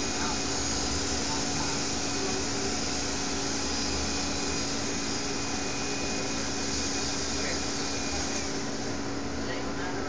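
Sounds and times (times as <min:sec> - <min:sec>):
small electric motor whirring: 0:00.0 - 0:08.9.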